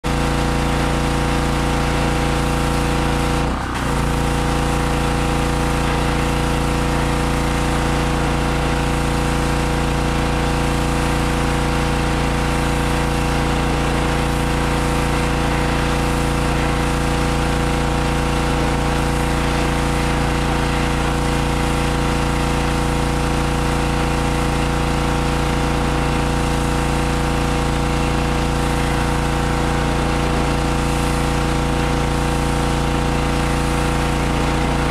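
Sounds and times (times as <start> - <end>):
pressure washer engine running: 0.0 - 34.9.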